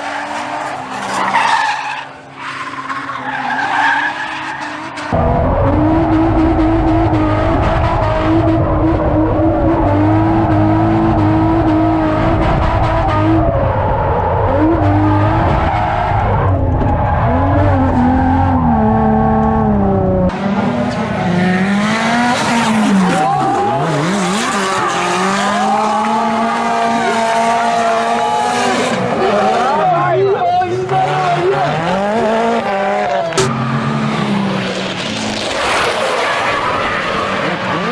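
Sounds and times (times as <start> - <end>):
car engine at high revs: 3.2 - 29.8, 30.8 - 37.9.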